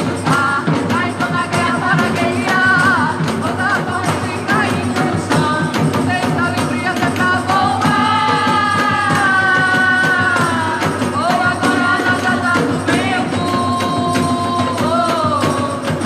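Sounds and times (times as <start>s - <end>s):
drums and tambourine beat: 0.0s - 16.0s
worship band playing: 0.0s - 16.0s.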